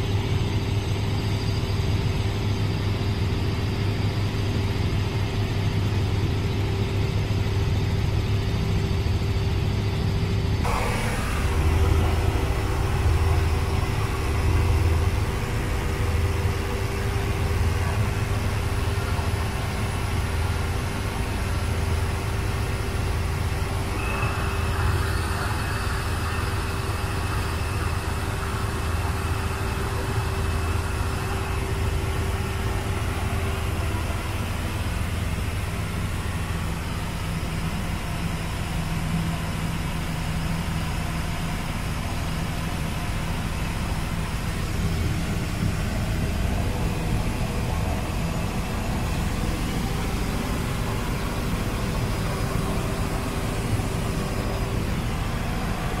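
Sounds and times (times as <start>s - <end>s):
steady hum: 0.0s - 56.0s
engine rumbling: 10.5s - 56.0s
thin high whine: 10.6s - 56.0s.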